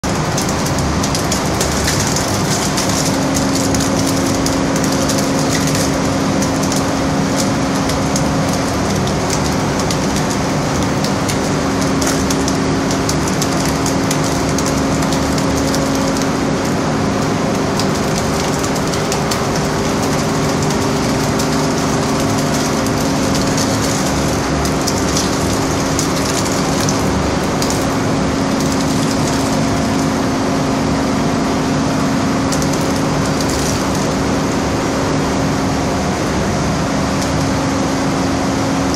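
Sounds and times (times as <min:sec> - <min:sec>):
material crackling through chutes: 0:00.0 - 0:30.4, 0:31.9 - 0:34.6
processing machinery hum: 0:00.0 - 0:38.9.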